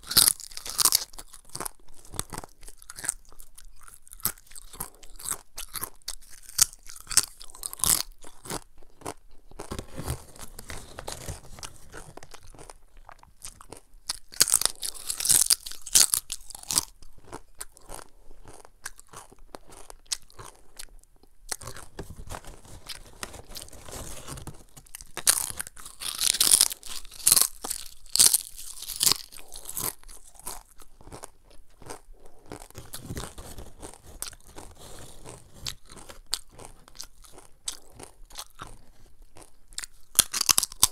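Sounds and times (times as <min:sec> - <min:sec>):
crunching crisp chips: 0:00.0 - 0:40.9.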